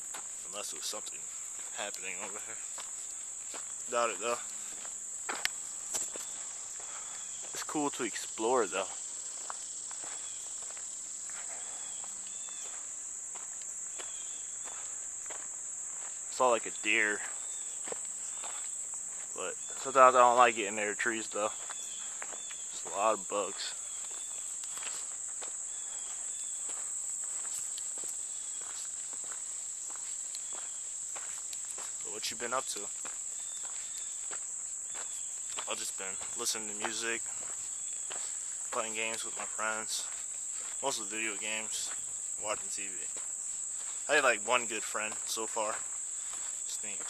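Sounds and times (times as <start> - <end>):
footsteps on a path: 0.0 - 47.0
insects shrilling: 0.0 - 47.0.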